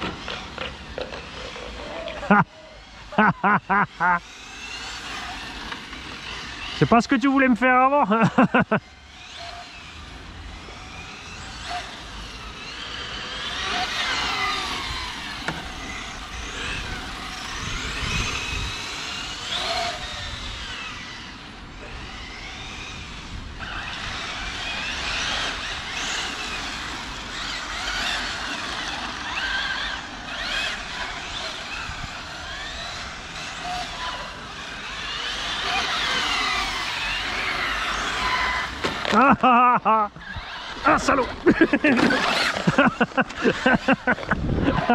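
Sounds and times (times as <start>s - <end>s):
electric motors whining: 0.0s - 44.9s.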